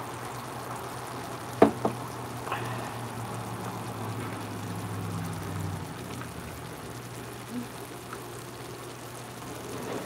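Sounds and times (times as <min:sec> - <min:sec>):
food simmering in a pot: 0:00.0 - 0:10.0.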